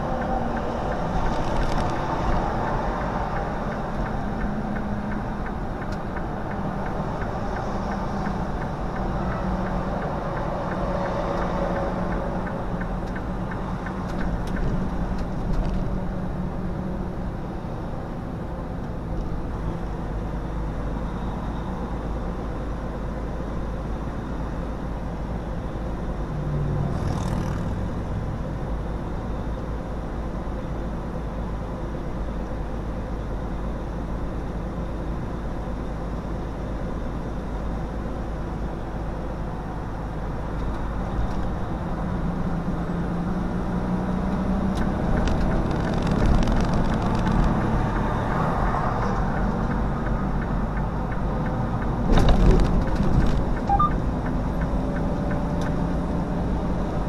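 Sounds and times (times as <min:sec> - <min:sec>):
diesel truck engine drone: 0:00.0 - 0:57.0
road and tyre noise: 0:00.0 - 0:57.0.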